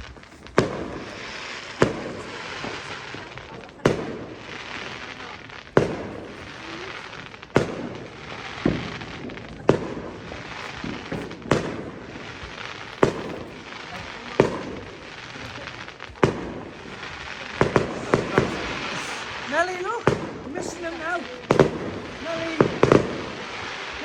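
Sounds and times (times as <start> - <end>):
fireworks exploding: 0.0 - 24.0
steady background hiss: 0.0 - 24.0.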